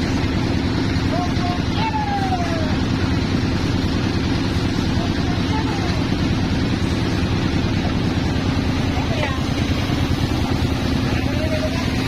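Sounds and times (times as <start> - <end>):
sawmill engine droning: 0.0 - 12.0.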